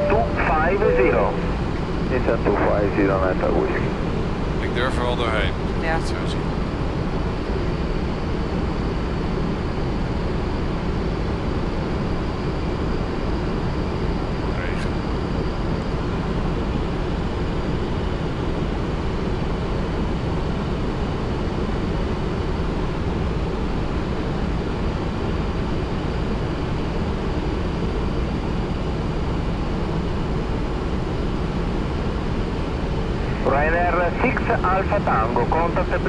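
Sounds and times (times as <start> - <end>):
airplane cockpit roar: 0.0 - 36.0.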